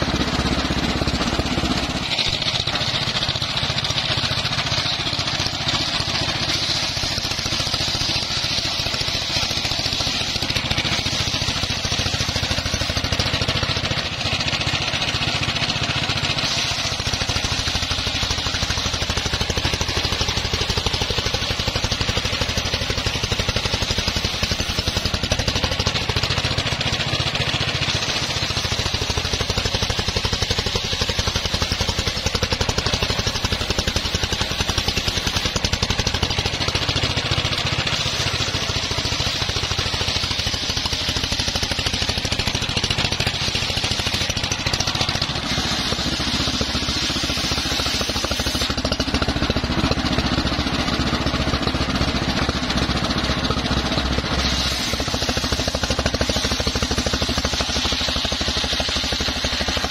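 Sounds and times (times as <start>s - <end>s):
circular saw cutting log: 0.0s - 59.9s
engine running: 0.0s - 59.9s.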